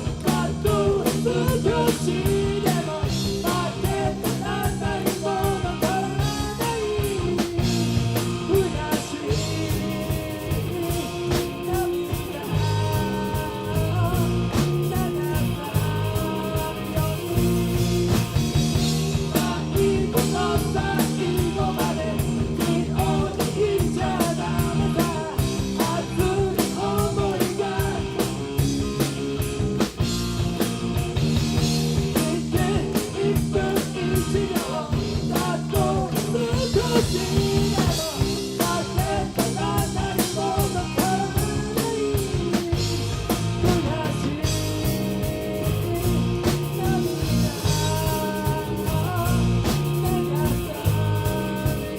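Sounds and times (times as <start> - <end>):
bass guitar: 0.0 - 51.9
drum kit beating: 0.0 - 51.9
electric guitar: 0.0 - 51.9.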